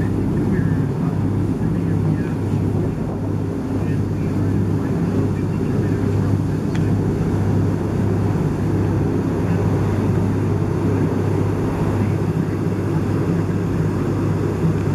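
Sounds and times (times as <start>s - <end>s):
boat engine humming: 0.0s - 14.9s
wind: 0.0s - 14.9s.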